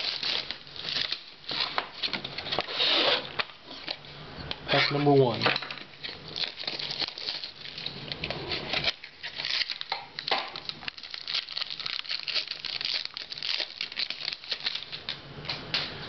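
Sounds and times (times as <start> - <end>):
wrapper crinkling and tearing: 0.0 - 3.8, 5.8 - 15.2.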